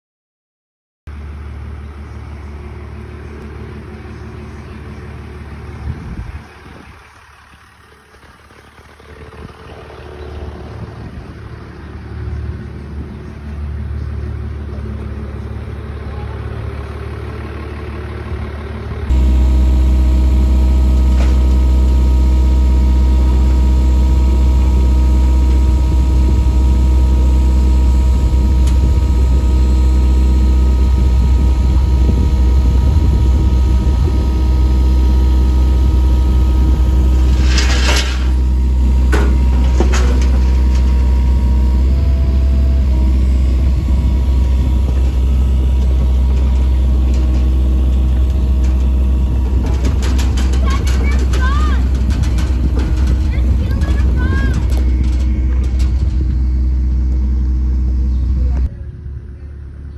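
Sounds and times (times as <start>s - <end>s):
engine idling: 1.1s - 59.9s.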